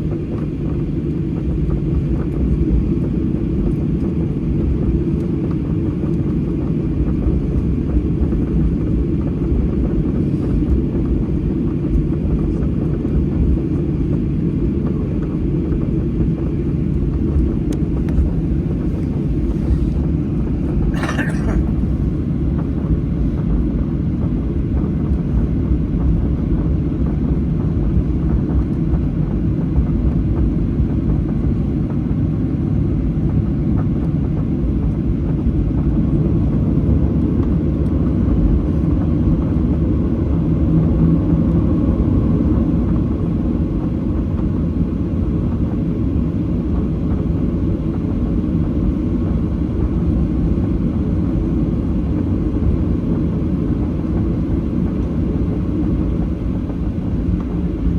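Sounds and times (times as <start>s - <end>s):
airliner cabin engine rumble: 0.0s - 57.9s.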